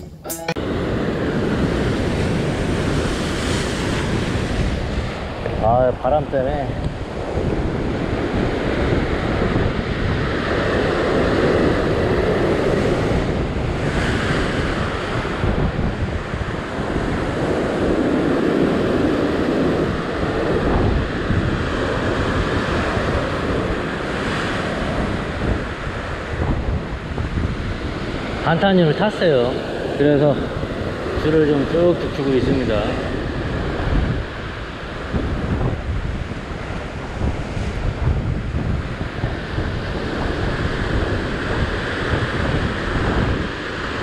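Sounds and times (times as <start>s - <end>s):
wind buffeting microphone: 0.6s - 44.0s.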